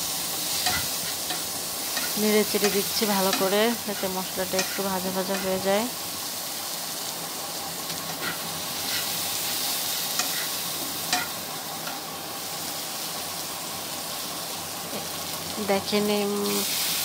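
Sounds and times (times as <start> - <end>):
spice paste sizzling in oil: 0.0 - 17.0.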